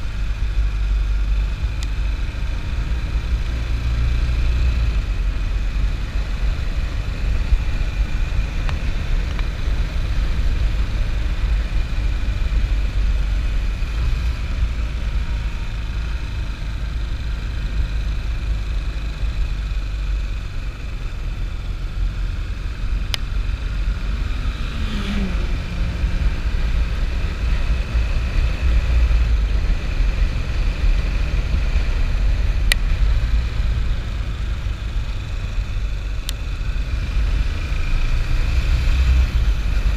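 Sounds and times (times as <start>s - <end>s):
low wind rumble: 0.0s - 39.9s
motorcycle engine cruising: 0.0s - 39.9s.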